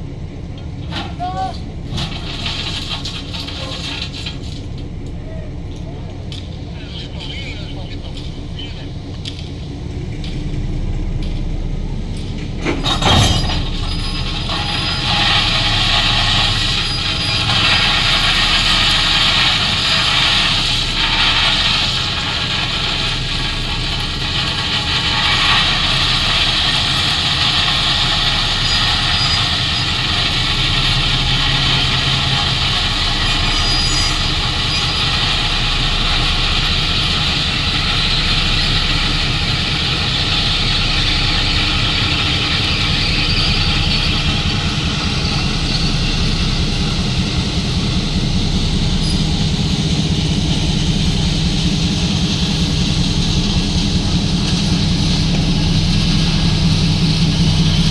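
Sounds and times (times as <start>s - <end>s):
diesel locomotive engine hum: 0.0s - 57.9s.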